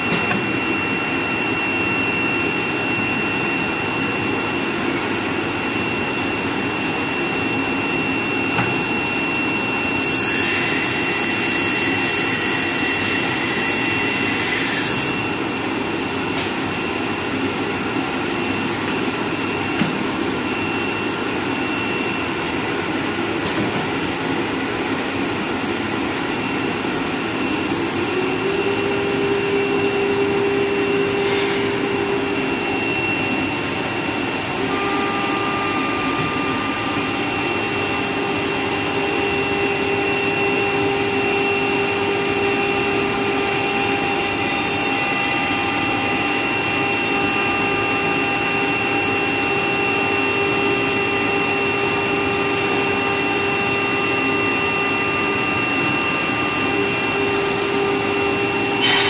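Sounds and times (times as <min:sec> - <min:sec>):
router spindle whine: 0:00.0 - 0:59.0.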